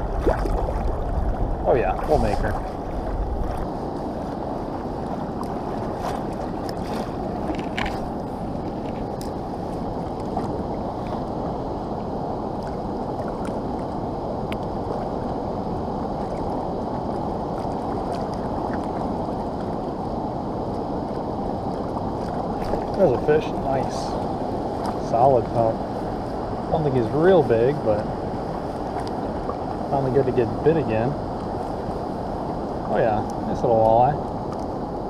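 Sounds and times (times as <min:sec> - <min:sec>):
fast river current rushing: 0:00.0 - 0:35.0.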